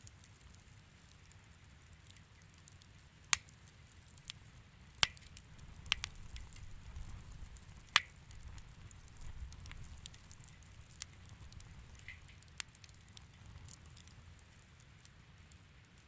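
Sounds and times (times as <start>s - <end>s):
fireplace fire crackling: 0.0s - 16.0s
sharp fire pops: 0.1s - 14.6s.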